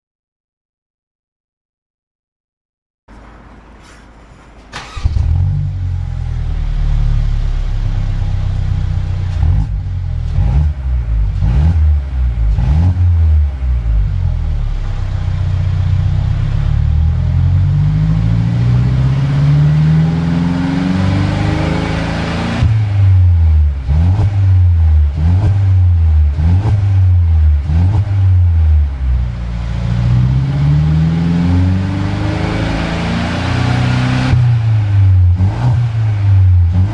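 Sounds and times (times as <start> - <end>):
car engine idling and revving: 3.1 - 36.9
car engine starting: 3.1 - 36.9.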